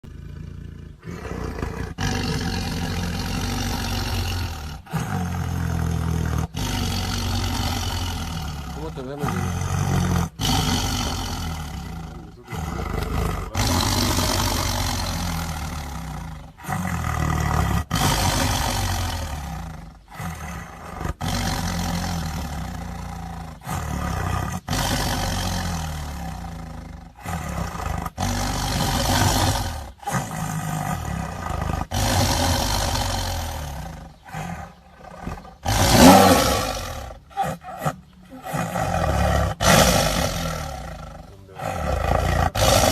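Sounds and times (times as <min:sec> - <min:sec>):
tiger roaring and growling: 0:00.0 - 0:42.9.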